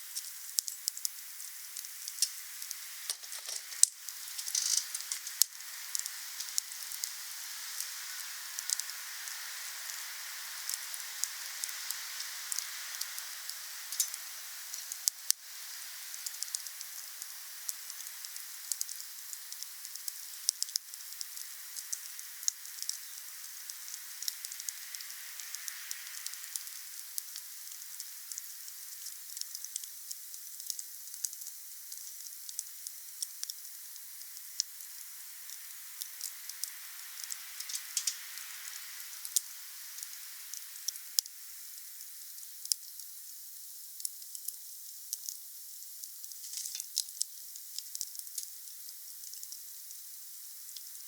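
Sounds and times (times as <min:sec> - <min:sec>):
wood fire crackling and popping: 0:00.0 - 0:07.2, 0:10.6 - 0:15.4, 0:16.2 - 0:43.0, 0:44.0 - 0:50.0.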